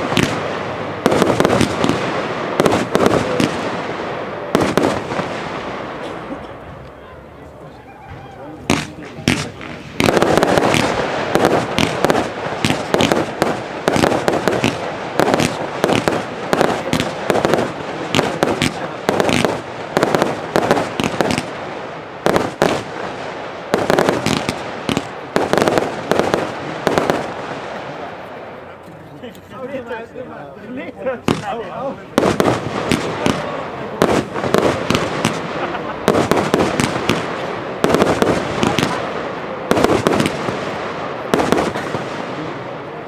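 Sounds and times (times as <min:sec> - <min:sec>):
firework launches and bursts: 0:00.0 - 0:06.0, 0:08.6 - 0:28.1, 0:31.2 - 0:42.6.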